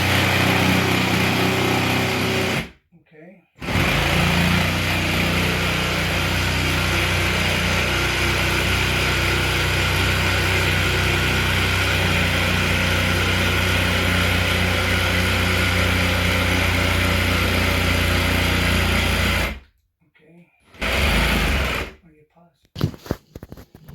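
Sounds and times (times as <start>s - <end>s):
electric motor tool running: 0.0s - 2.7s, 3.6s - 19.6s, 20.8s - 21.9s.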